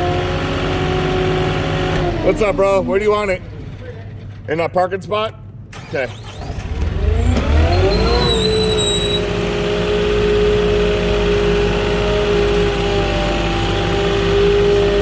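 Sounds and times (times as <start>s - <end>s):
forklift engine revving: 0.0s - 4.5s, 5.7s - 15.0s.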